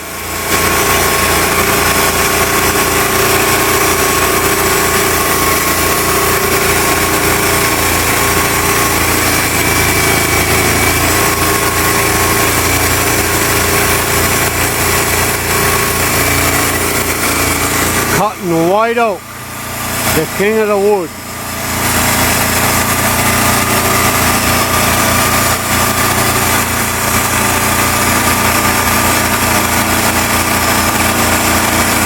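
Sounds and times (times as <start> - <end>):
band sawmill cutting log: 0.0 - 32.0.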